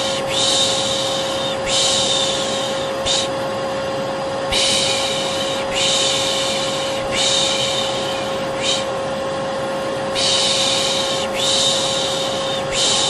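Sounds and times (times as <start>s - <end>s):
person shushing: 0.0s - 3.3s, 4.5s - 9.0s, 10.2s - 13.0s
vacuum cleaner humming: 0.0s - 13.0s.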